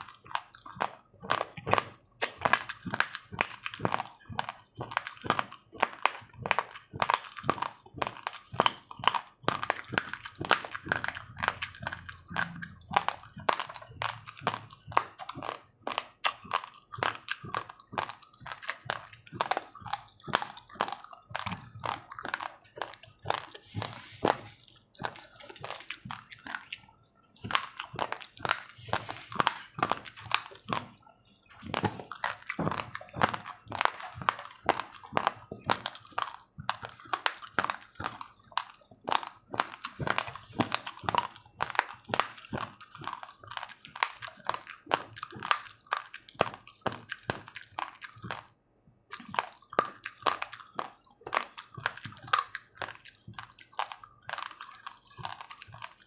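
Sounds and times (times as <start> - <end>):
person chewing crunchy rice: 0.0 - 56.0.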